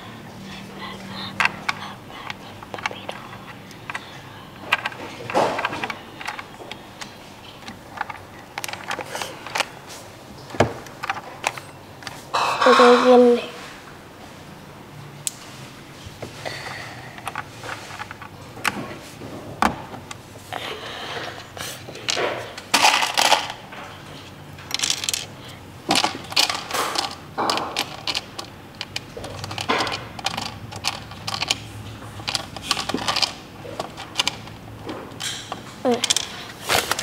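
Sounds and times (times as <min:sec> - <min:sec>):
plastic keyboard parts clattering: 0:01.2 - 0:09.8, 0:10.4 - 0:12.8, 0:16.2 - 0:20.2, 0:21.1 - 0:37.0.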